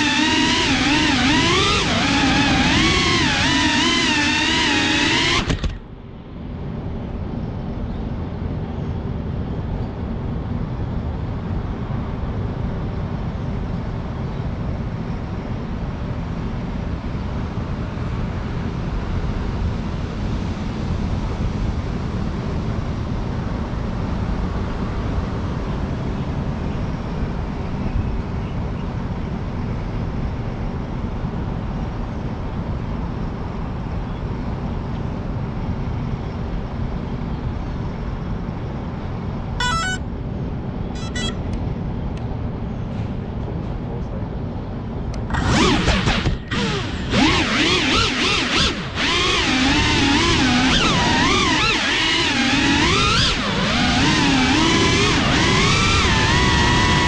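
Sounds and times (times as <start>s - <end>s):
low traffic rumble: 0.0s - 57.0s.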